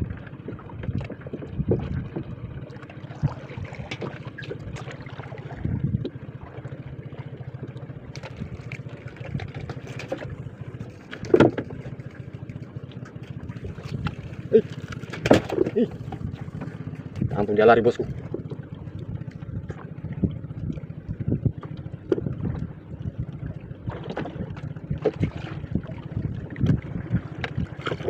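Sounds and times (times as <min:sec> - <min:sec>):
boat engine humming: 0:00.0 - 0:28.0
water noise: 0:00.0 - 0:28.0
wind: 0:00.0 - 0:28.0.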